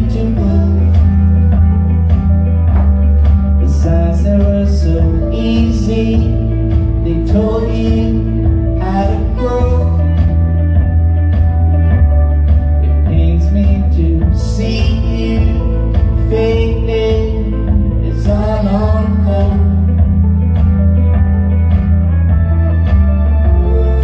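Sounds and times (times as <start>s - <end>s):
electric guitar: 0.0s - 24.0s
heavy steady bass: 0.0s - 24.0s
keyboard playing: 0.0s - 24.0s.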